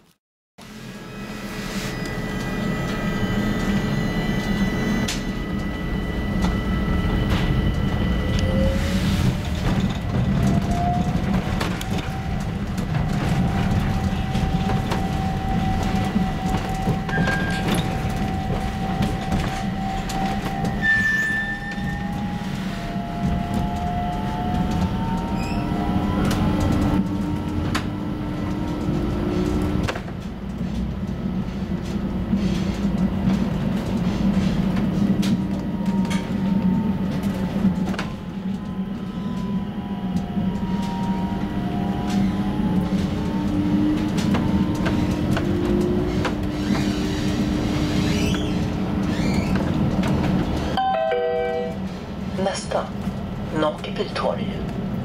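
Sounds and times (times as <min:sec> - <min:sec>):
tram motor whine: 0:00.6 - 0:55.0
tram wheels rumbling on rails: 0:00.6 - 0:55.0.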